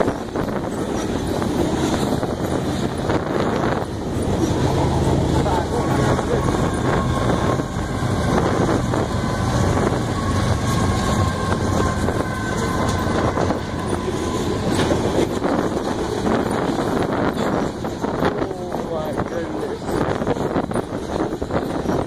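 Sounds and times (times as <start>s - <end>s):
diesel locomotive engine hum: 0.0s - 22.0s
train cars rumbling: 0.0s - 22.0s
wheels clicking over rails: 0.0s - 22.0s.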